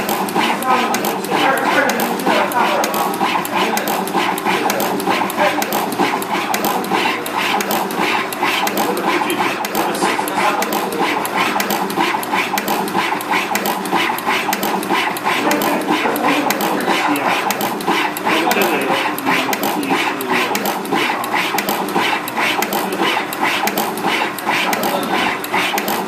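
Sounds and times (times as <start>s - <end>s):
motor hum: 0.0s - 26.0s
rapid mechanical clicking: 0.0s - 26.0s.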